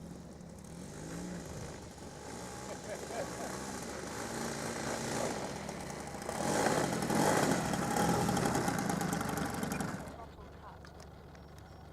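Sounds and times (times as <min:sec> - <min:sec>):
model aircraft engine running: 0:00.0 - 0:11.9.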